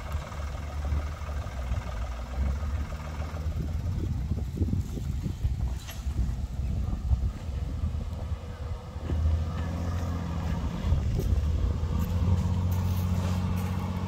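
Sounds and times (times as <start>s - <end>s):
earthmoving machinery diesel engines: 0.0s - 14.0s.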